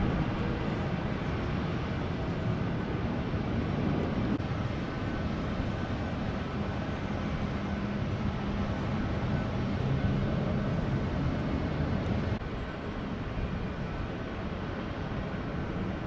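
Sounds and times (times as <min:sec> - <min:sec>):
low rumble of vehicle noise: 0:00.0 - 0:16.0.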